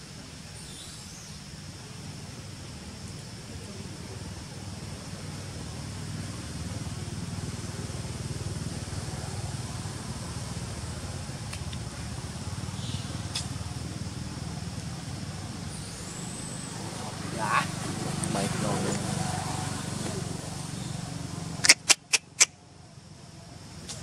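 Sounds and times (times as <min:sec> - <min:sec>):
low outdoor rumble: 0:01.4 - 0:21.7.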